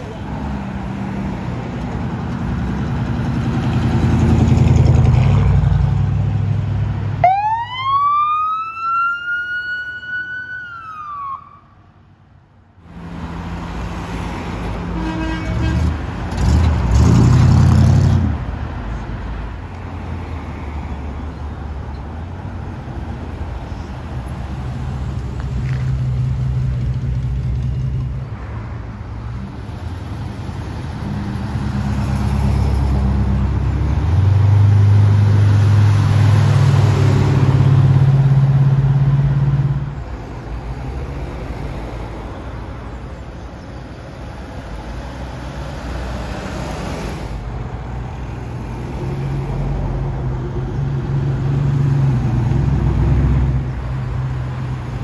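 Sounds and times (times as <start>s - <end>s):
vehicle engines running: 0.0s - 7.3s, 12.8s - 55.0s.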